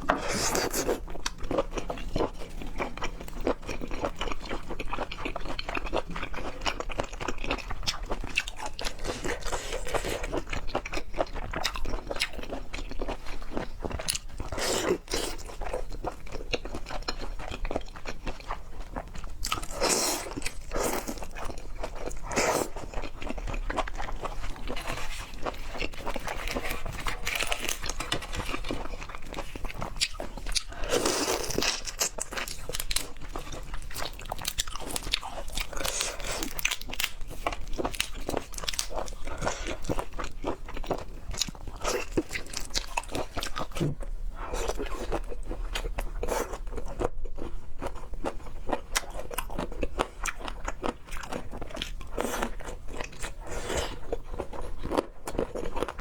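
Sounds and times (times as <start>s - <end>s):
close chewing and crunching: 0.0s - 56.0s.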